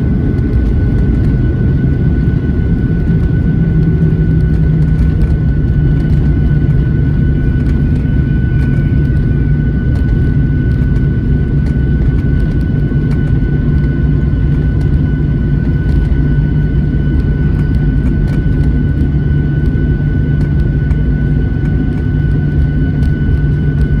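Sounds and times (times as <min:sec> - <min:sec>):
airliner cabin rumble: 0:00.0 - 0:24.0
thin steady whine: 0:00.0 - 0:24.0.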